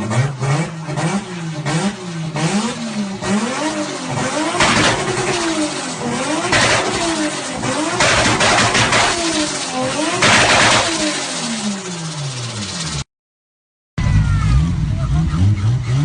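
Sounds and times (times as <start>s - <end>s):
car engine revving: 0.0s - 13.0s, 14.0s - 16.0s.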